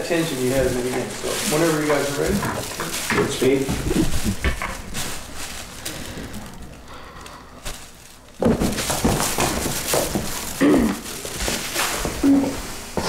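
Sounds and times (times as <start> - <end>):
footsteps: 0.0 - 13.0.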